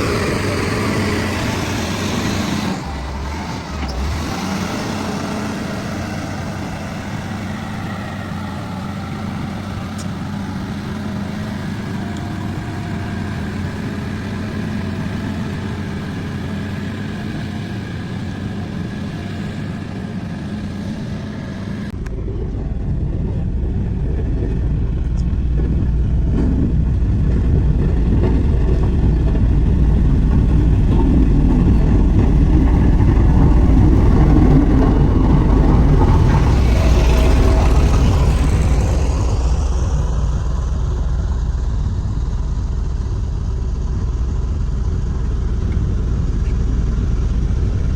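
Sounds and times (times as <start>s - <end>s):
heavy construction machinery engine: 0.0s - 47.9s.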